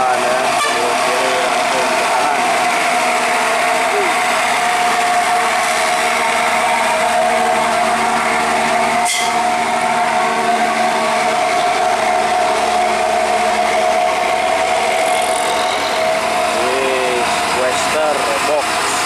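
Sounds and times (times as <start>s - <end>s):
truck diesel engine labouring: 0.0s - 19.0s.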